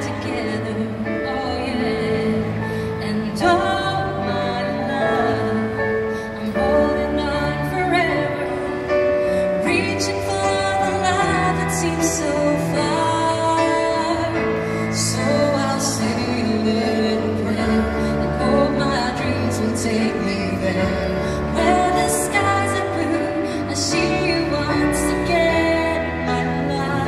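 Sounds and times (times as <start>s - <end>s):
woman singing pop ballad: 0.0s - 27.0s.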